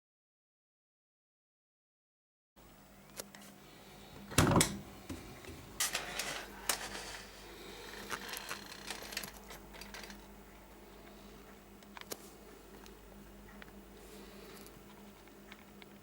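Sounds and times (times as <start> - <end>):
faint steady hum: 2.6 - 16.0.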